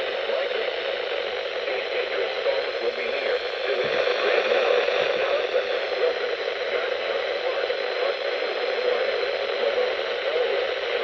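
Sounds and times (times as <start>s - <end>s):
person speaking over radio: 0.0s - 11.0s
radio static hiss: 0.0s - 11.0s.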